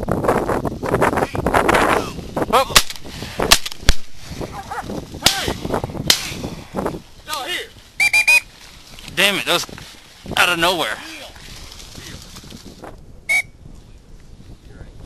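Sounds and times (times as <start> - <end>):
rustling noise: 0.0 - 13.1.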